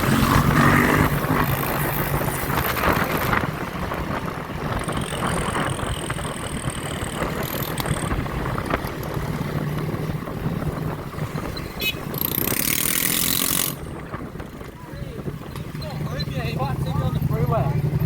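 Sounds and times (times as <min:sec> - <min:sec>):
road and wind rumble: 0:00.0 - 0:18.0
vehicle engine running: 0:00.0 - 0:18.0.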